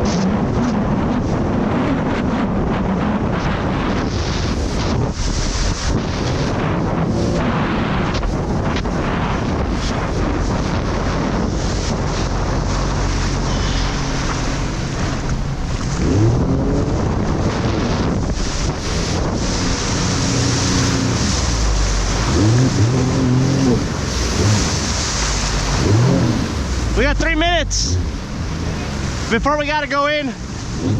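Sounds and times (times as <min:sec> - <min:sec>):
jet ski engine: 0:00.0 - 0:30.9
wind noise on microphone: 0:00.0 - 0:30.9
water rushing: 0:03.4 - 0:30.9.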